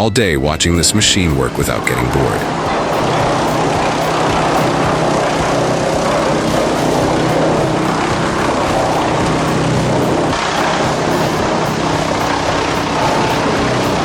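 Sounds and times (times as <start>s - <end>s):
engine drone: 1.0s - 14.0s.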